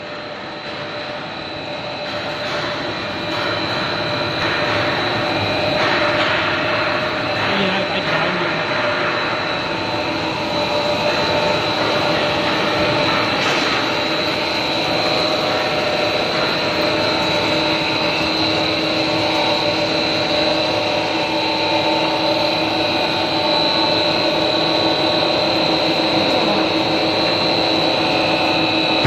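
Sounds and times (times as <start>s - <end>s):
high-pitched whine: 0.0s - 29.0s
machine drone: 0.0s - 29.0s.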